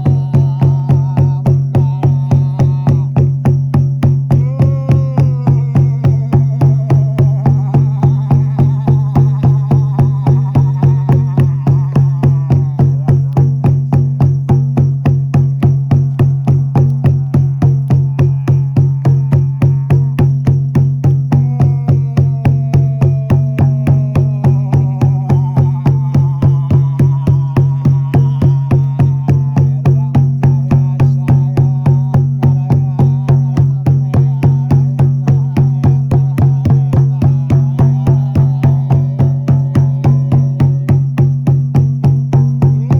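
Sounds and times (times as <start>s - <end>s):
person humming: 0.0s - 3.4s, 4.3s - 14.3s, 15.0s - 42.0s
frame drum beating: 0.0s - 42.9s.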